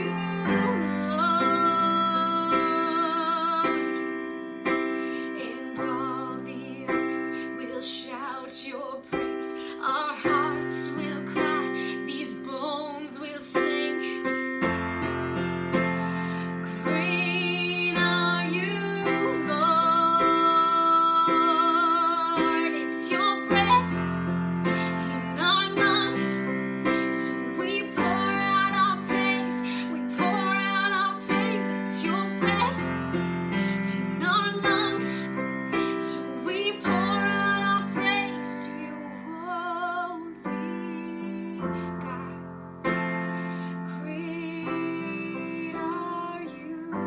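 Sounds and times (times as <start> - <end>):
woman singing with vibrato: 0.0 - 4.3, 5.1 - 14.6, 16.1 - 42.4, 43.8 - 47.0.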